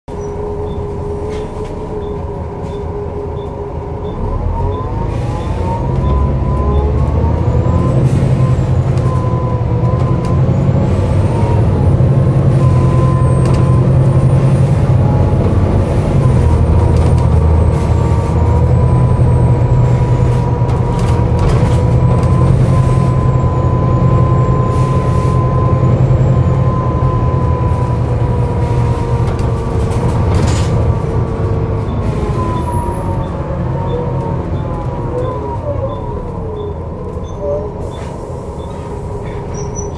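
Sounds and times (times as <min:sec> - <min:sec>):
bus engine and transmission: 0:00.0 - 0:39.9
bus whine: 0:00.1 - 0:39.9.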